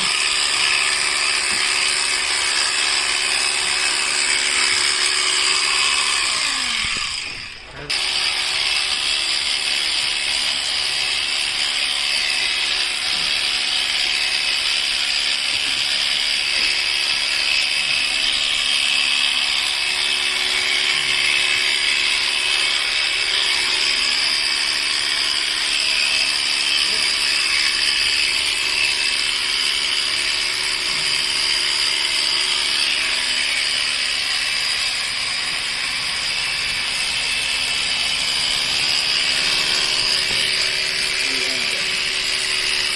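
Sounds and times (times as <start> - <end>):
electric clippers running: 0.0 - 42.9.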